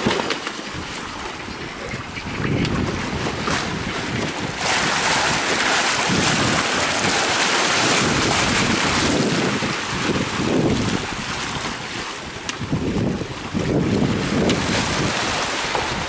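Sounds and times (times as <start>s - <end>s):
water rushing past boat hull: 0.0s - 16.0s
wind buffeting microphone: 0.7s - 16.0s.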